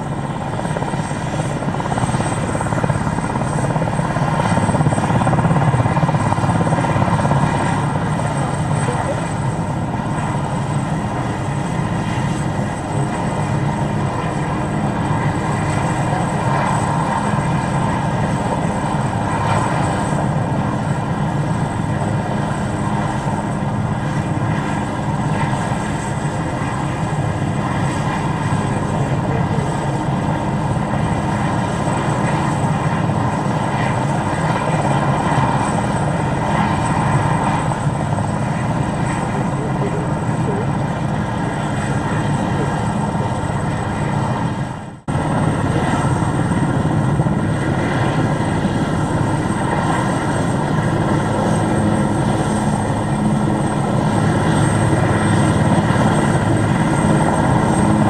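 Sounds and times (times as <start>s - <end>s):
helicopter rotor and engine: 0.0s - 58.0s
high turbine whine: 0.0s - 58.0s.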